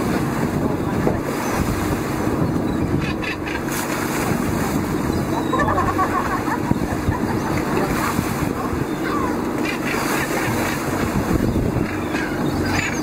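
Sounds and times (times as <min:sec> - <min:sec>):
boat engine running: 0:00.0 - 0:13.0
sea water splashing along hull: 0:00.0 - 0:13.0
wind buffeting microphone: 0:00.0 - 0:13.0.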